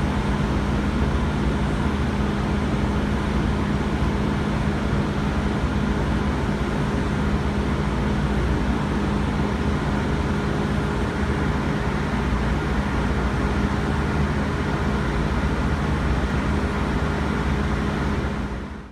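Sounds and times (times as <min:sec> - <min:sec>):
subway car interior hum: 0:00.0 - 0:18.9.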